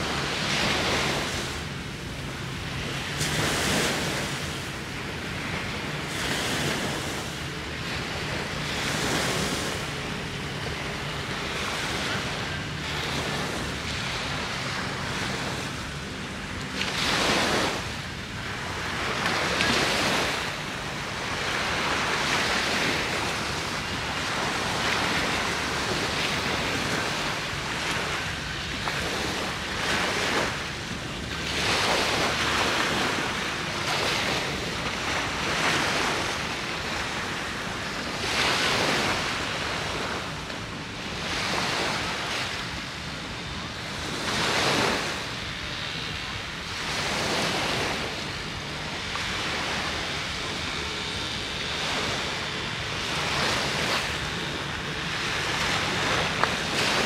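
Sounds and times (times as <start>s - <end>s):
sea waves breaking on shore: 0.0s - 57.0s
wind on microphone: 0.0s - 57.0s.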